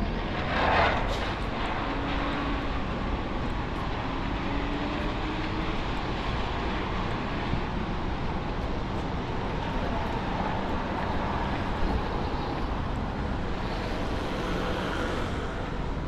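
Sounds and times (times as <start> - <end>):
rain: 0.0 - 16.0
rush of noise: 0.0 - 16.0.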